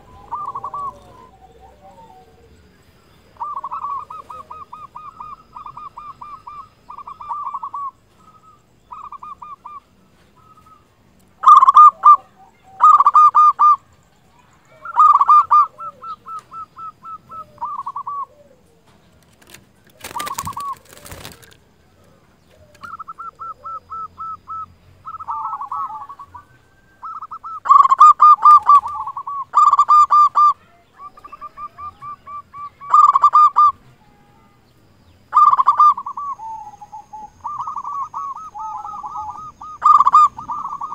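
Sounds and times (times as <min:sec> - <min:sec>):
dove cooing: 0:00.0 - 0:34.6, 0:35.3 - 0:40.9.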